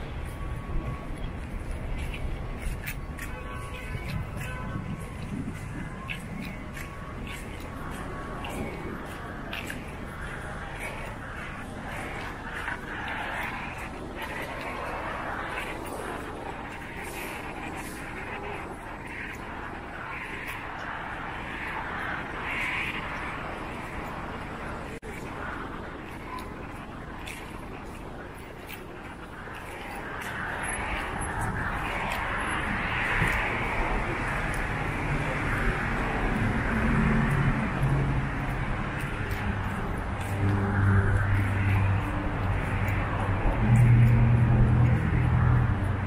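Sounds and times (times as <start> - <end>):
passing traffic: 0.0 - 46.0.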